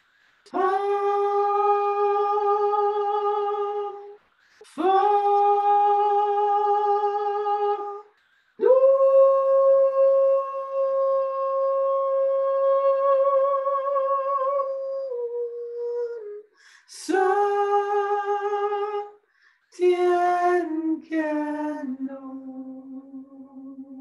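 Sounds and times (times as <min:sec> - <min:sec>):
woman singing wordless held notes: 0:00.4 - 0:24.0.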